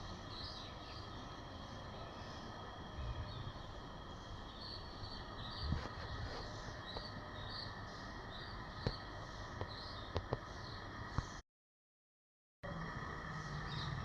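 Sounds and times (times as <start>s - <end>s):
outdoor background hum: 0.0s - 11.4s, 12.6s - 14.0s
small bird chirping: 0.0s - 11.4s, 13.2s - 14.0s.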